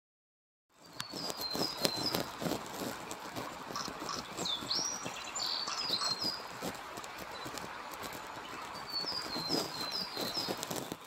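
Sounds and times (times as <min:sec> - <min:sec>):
background hiss: 0:00.8 - 0:11.0
bird chirping song: 0:00.8 - 0:11.0.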